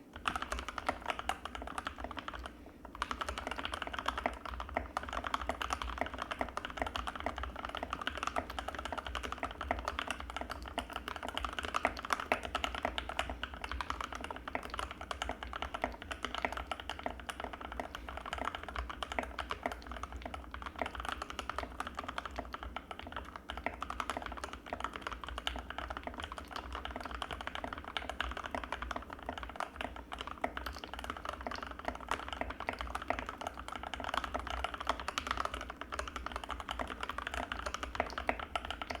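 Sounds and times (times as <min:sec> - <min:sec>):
fast typing on mechanical keyboard: 0:00.1 - 0:39.0.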